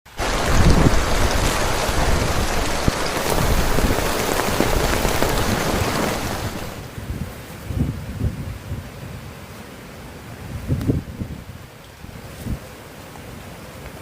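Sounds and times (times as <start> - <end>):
heavy rain on a tent: 0.1 - 14.0.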